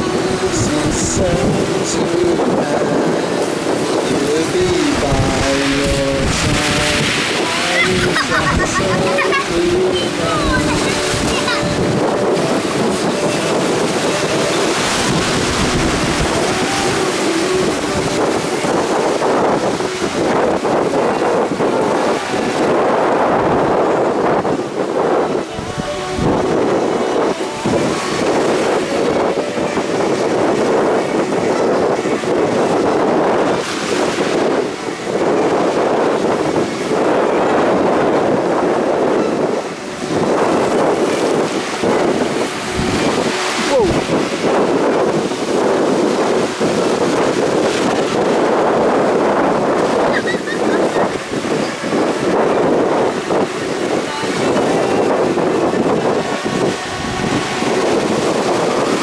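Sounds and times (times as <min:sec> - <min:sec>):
sea waves washing on beach: 0:00.0 - 0:59.0
wind buffeting microphone: 0:00.0 - 0:59.0.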